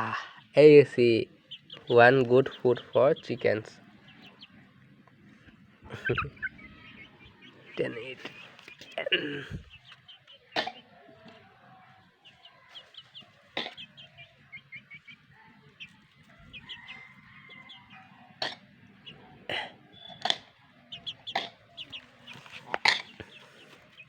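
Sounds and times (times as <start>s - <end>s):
chickens clucking: 0.0s - 24.0s
chicks peeping: 0.4s - 24.0s.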